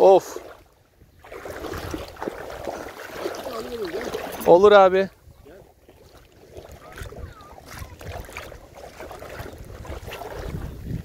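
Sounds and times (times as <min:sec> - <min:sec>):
small waves lapping: 0:00.0 - 0:11.0
wind buffeting microphone: 0:00.9 - 0:11.0.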